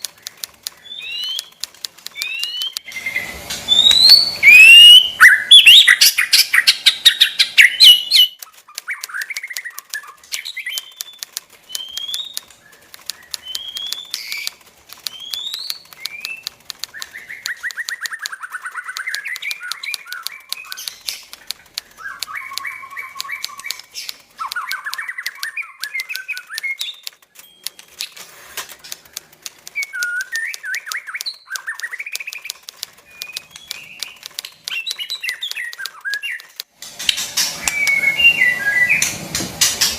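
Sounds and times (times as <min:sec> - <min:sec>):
bird singing: 0:00.0 - 0:28.2, 0:29.6 - 0:36.6, 0:37.3 - 0:39.1
sharp bird clicks: 0:00.0 - 0:39.9.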